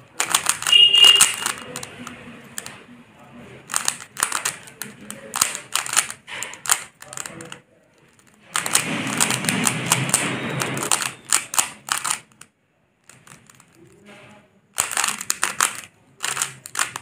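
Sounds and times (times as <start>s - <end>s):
puzzle cube layers clacking: 0.0s - 2.9s, 3.5s - 14.0s, 14.7s - 17.0s.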